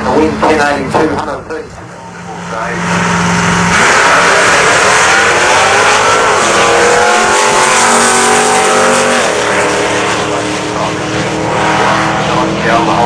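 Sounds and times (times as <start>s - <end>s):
drag racing car engine: 0.0s - 13.0s.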